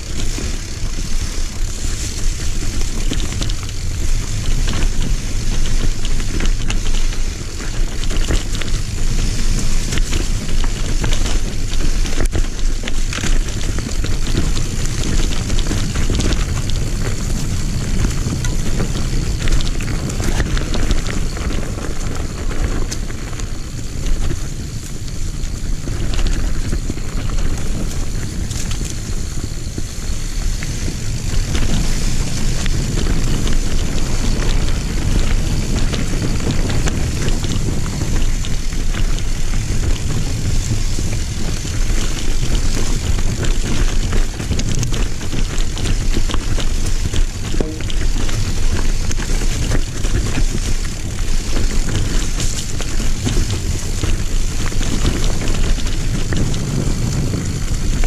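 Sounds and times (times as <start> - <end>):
bike rattling and clicking: 0.0 - 58.0
bike tyres on dirt: 0.0 - 58.0
wind rushing over microphone: 0.0 - 58.0.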